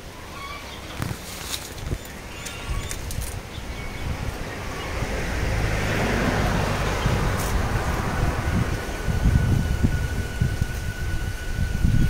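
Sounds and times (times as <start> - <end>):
low wind rumble on microphone: 0.0 - 12.0
rushing hiss: 0.1 - 12.0.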